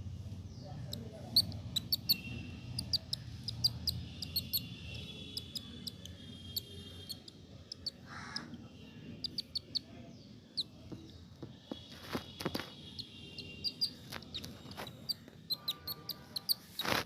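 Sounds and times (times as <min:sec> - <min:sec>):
baby squirrel chirping: 0:00.9 - 0:09.9, 0:10.5 - 0:10.8, 0:12.4 - 0:17.0.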